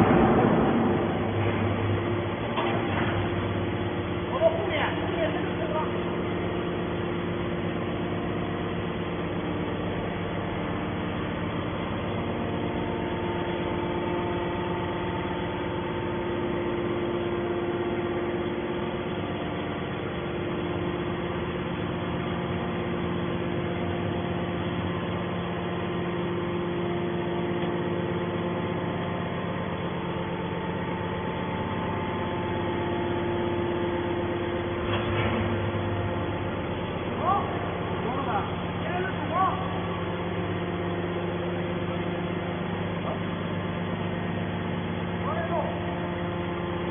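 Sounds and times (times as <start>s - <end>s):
hydraulic baler motor humming: 0.0s - 46.9s.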